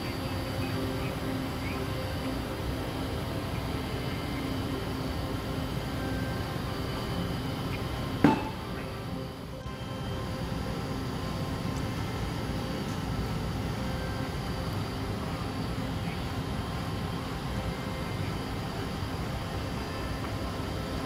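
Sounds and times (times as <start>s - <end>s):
faint steady tones: 0.0s - 21.0s
ventilation hum: 0.0s - 21.0s.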